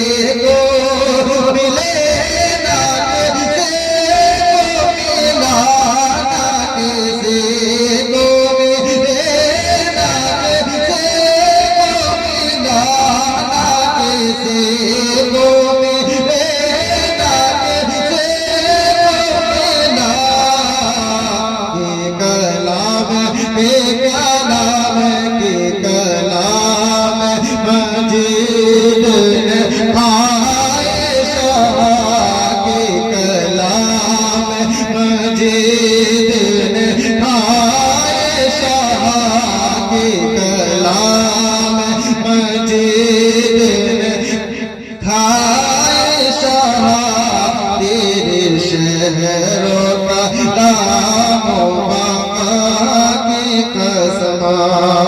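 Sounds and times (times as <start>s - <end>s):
man singing wordless held notes: 0.0s - 55.0s.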